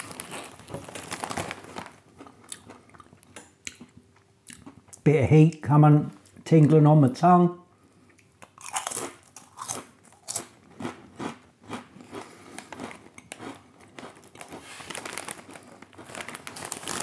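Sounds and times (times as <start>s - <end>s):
crisps being chewed: 0.0s - 5.0s, 8.1s - 17.0s.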